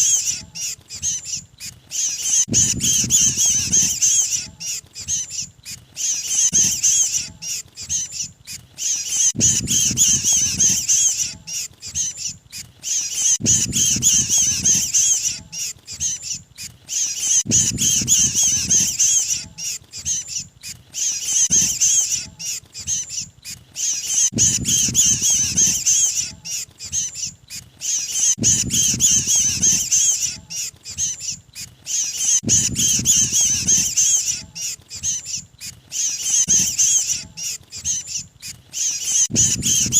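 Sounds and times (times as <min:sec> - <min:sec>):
birds chattering and squawking: 0:00.0 - 0:39.9.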